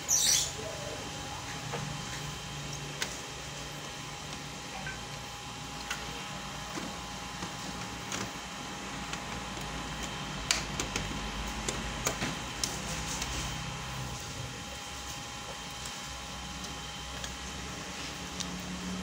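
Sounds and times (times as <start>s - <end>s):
printer hum with high whine: 0.0s - 19.0s.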